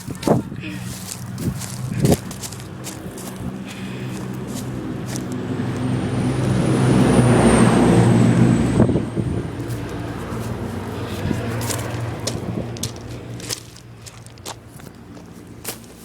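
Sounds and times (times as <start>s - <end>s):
vehicle driving past: 0.8s - 14.4s.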